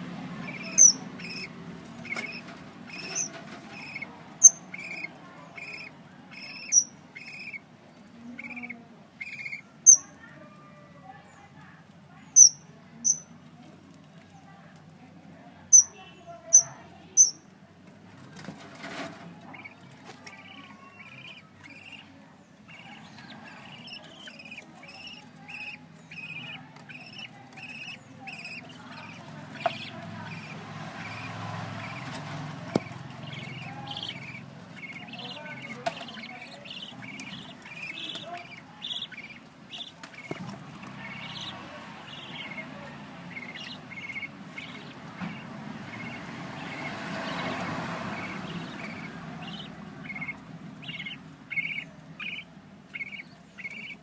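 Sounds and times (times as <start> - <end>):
budgerigars chirping: 0.0 - 10.3, 12.2 - 13.4, 15.6 - 17.5, 19.4 - 54.0.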